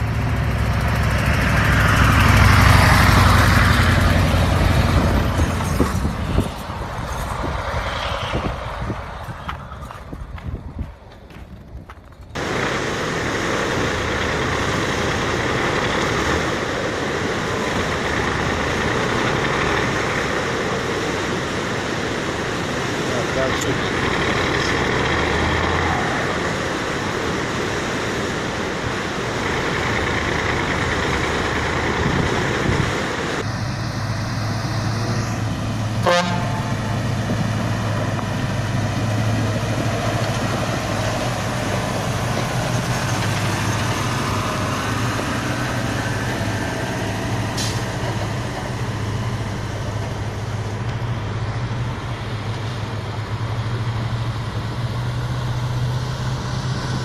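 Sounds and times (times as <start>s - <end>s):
water rushing and splashing: 0.0s - 10.2s, 12.4s - 57.0s
truck engine running: 0.0s - 57.0s.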